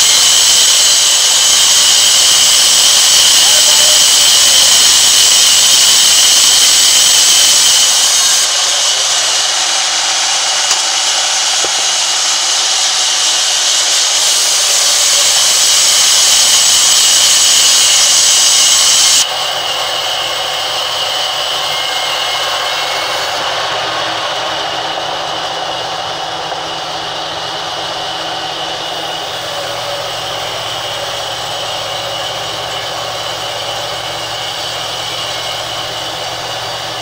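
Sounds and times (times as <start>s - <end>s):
band saw cutting log: 0.0s - 37.0s.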